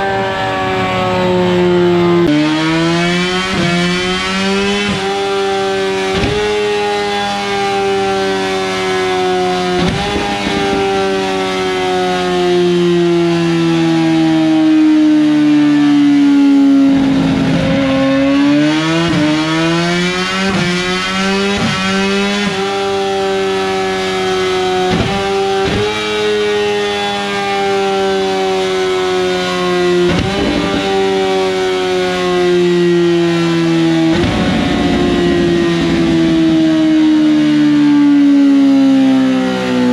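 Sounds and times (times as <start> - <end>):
motorcycle engine revving hard: 2.2 - 12.0, 16.4 - 39.1.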